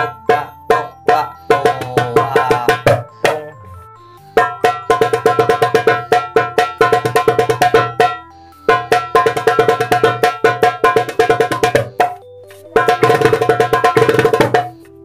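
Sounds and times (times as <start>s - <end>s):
hand drum rolls: 0.0s - 3.6s, 4.4s - 14.8s.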